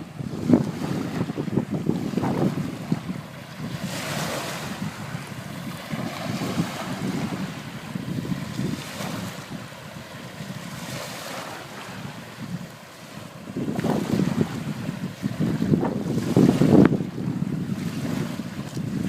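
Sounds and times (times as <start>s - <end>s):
sea waves washing onto beach: 0.0s - 19.0s
wind buffeting microphone: 0.0s - 19.0s.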